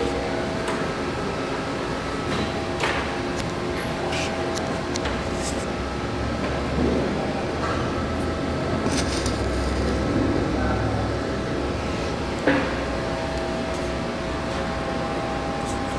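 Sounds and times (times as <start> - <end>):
mechanical hum: 0.0 - 15.9.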